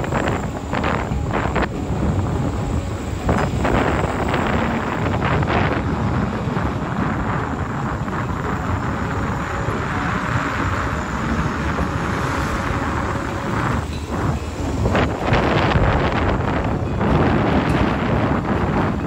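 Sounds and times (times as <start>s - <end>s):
vehicle road noise: 0.0s - 19.0s
wind buffeting microphone: 0.0s - 19.0s.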